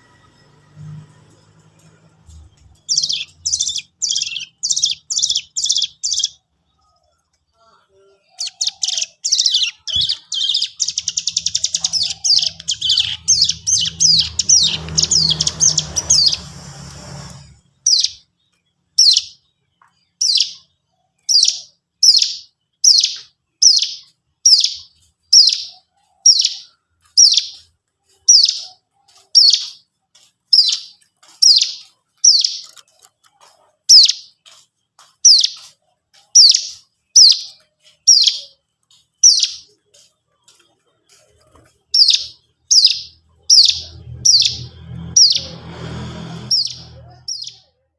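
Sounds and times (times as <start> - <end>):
songbird chirps and trill: 0.0 - 47.9.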